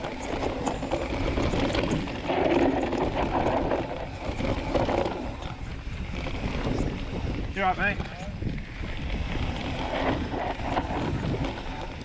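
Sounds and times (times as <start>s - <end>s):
bike rattling over bumps: 0.0s - 12.0s
bike tyres rolling over dirt: 0.0s - 12.0s
wind buffeting microphone: 0.0s - 12.0s.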